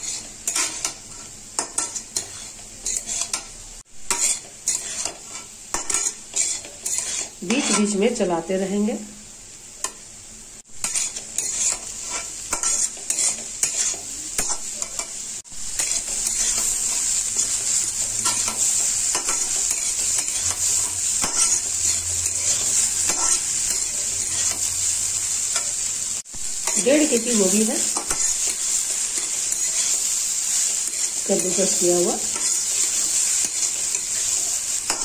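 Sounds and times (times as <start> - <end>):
metal spatula scraping pan: 0.0 - 3.5, 4.1 - 8.1, 10.8 - 15.1, 15.8 - 24.9, 26.6 - 35.0
cauliflower sizzling in oil: 0.0 - 35.0.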